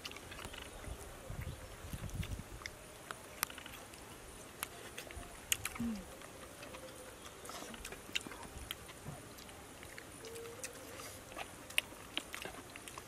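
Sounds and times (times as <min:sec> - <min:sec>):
people chewing with mouth smacks: 0:00.0 - 0:13.0.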